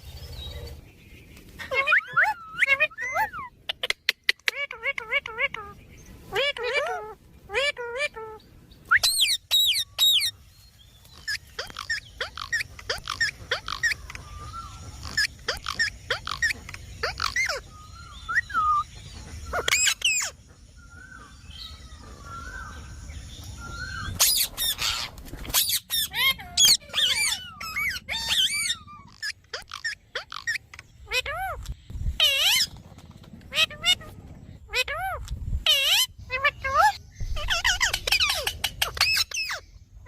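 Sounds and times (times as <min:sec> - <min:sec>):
parakeet calling and chattering: 0:01.6 - 0:10.4, 0:11.0 - 0:40.0.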